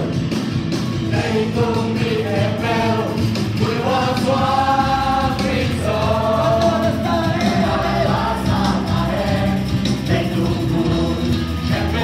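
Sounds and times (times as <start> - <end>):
group singing worship songs: 0.9 - 12.0.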